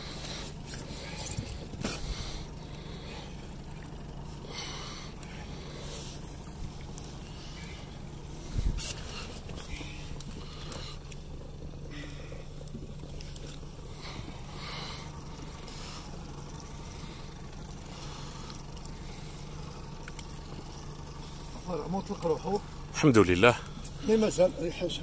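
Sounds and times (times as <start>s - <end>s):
low motor hum: 0.0s - 25.0s
faint clicks and rustle: 0.1s - 22.6s.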